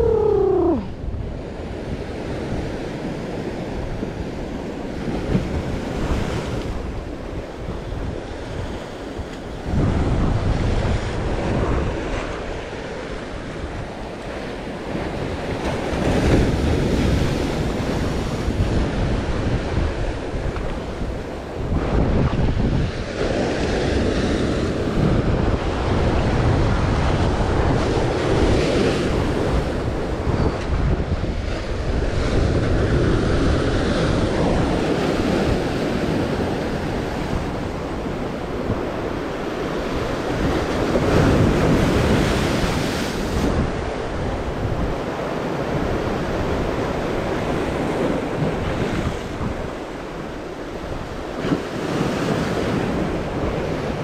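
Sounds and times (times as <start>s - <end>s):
sea surf breaking: 0.0s - 54.0s
wind buffeting microphone: 0.0s - 54.0s.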